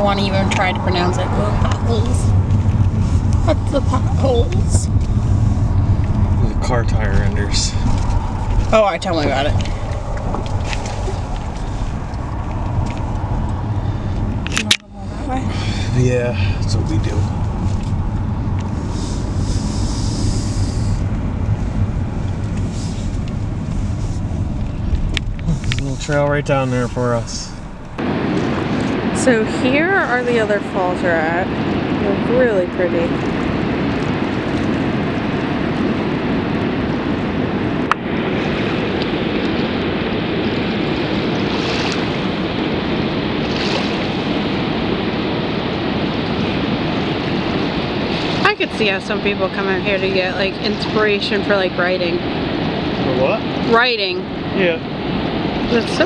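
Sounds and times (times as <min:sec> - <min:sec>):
road and engine noise inside car: 0:00.0 - 0:56.0.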